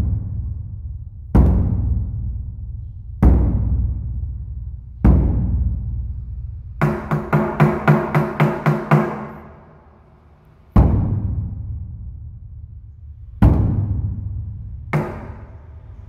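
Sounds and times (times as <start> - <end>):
large drum struck deeply: 1.3 - 9.9, 10.7 - 12.8, 13.4 - 16.0.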